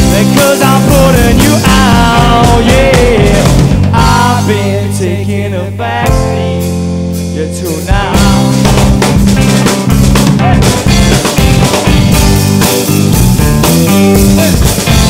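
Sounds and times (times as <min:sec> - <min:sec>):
man singing: 0:00.0 - 0:11.4, 0:14.3 - 0:15.0
drum kit: 0:00.0 - 0:15.0
electric guitars: 0:00.0 - 0:15.0.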